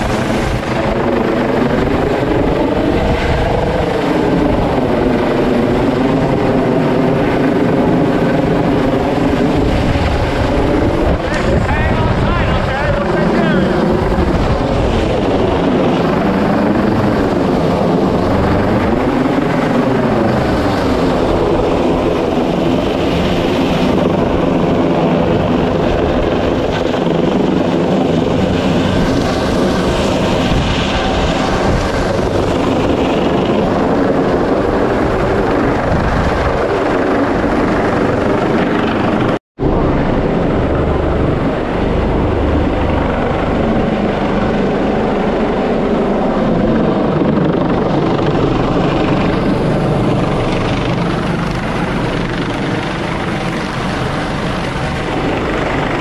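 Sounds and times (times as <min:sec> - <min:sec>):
helicopter hovering overhead: 0:00.0 - 0:56.0.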